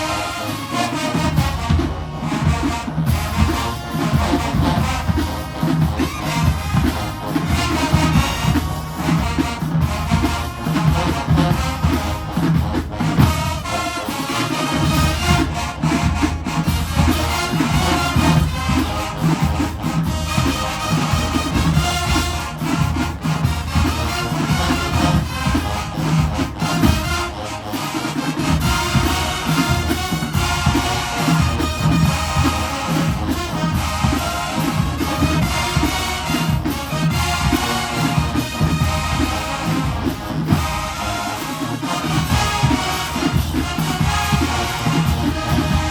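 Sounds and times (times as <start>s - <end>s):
brass: 0.0s - 45.9s
drums and sousaphones beat: 0.0s - 45.9s
marching band playing: 0.0s - 45.9s.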